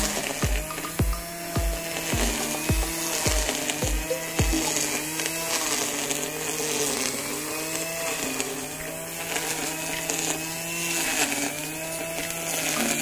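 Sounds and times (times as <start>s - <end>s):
electric line trimmer cutting grass: 0.0s - 13.0s.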